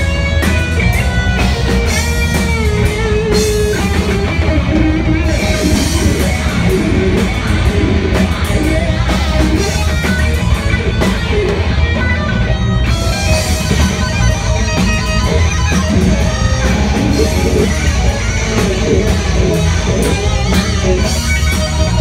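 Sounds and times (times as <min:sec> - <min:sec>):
death metal band playing: 0:00.0 - 0:22.0
distorted electric guitar riff: 0:00.0 - 0:22.0.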